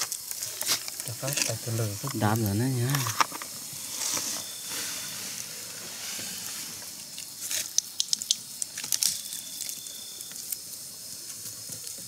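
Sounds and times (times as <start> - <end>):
crackles and pops: 0.0 - 12.0
food sizzling: 0.0 - 12.0.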